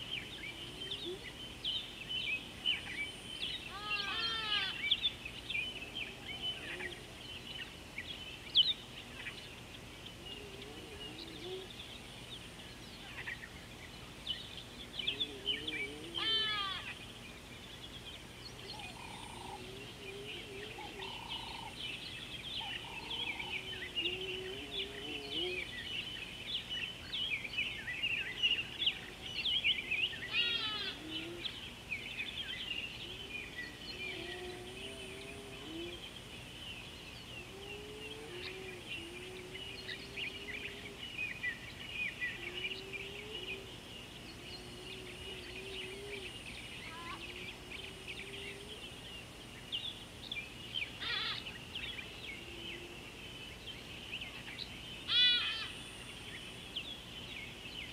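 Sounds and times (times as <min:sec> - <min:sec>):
birds chirping: 0:00.0 - 0:57.9
birds warbling: 0:00.0 - 0:57.9.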